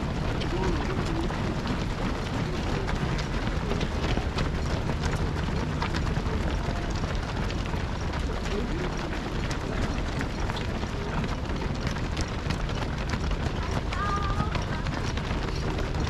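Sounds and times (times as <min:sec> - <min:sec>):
runners' footsteps on road: 0:00.0 - 0:16.0.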